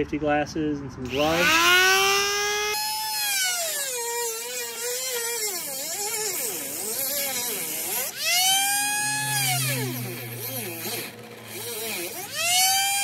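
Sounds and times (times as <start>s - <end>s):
rotary tool motor whine: 1.1s - 13.0s.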